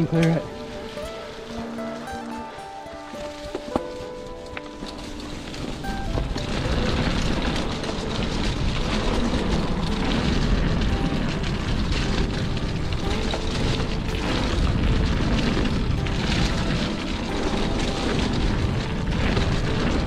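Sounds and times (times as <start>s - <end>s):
bike tyres rolling over dirt: 0.0s - 20.0s
wind buffeting microphone: 0.0s - 20.0s.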